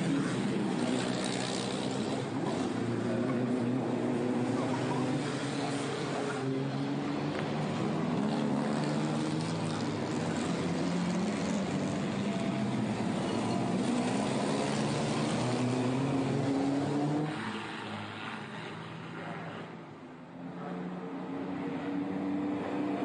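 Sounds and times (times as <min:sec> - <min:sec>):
racing car engines accelerating: 0:00.0 - 0:23.0.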